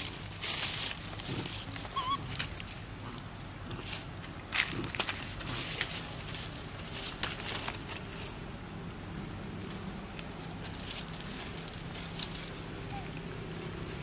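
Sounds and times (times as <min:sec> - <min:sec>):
dry leaves rustling underfoot: 0:00.0 - 0:14.0
steady low hum: 0:00.0 - 0:14.0.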